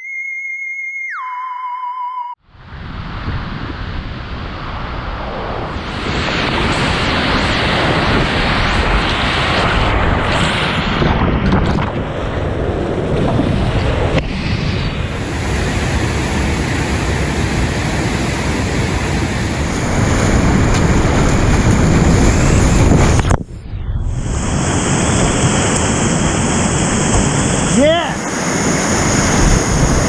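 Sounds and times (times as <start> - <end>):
wind buffeting microphone: 2.5 - 30.0.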